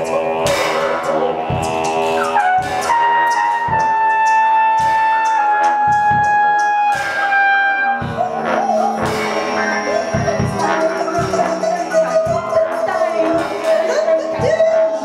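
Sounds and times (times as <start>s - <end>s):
drum and cymbal strokes: 0.0s - 15.0s
trombone: 0.0s - 15.0s
trumpet: 0.0s - 15.0s
voices: 0.0s - 15.0s.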